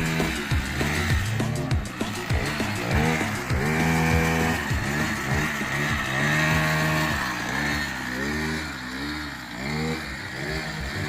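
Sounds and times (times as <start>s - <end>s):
small atv engine revving: 0.0s - 11.0s.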